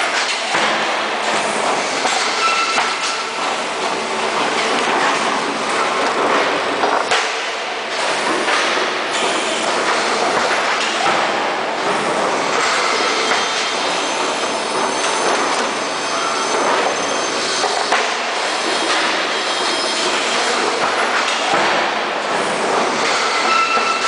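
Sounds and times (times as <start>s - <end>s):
conveyor machinery clattering: 0.0s - 24.0s
machinery clanks: 0.0s - 24.0s.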